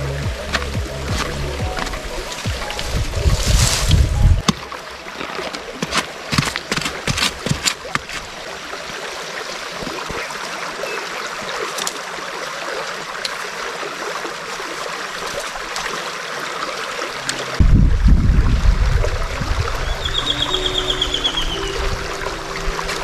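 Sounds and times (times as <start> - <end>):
water splashing: 0.0 - 23.0.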